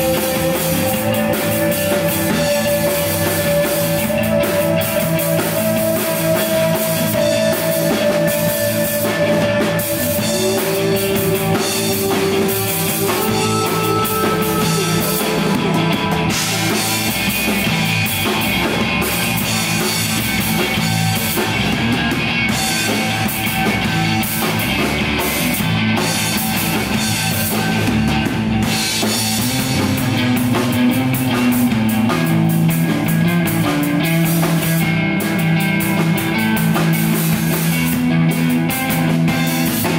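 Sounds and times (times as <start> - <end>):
electric bass: 0.0 - 39.9
electric guitar held notes: 0.0 - 39.9
steady drumming: 0.0 - 39.9.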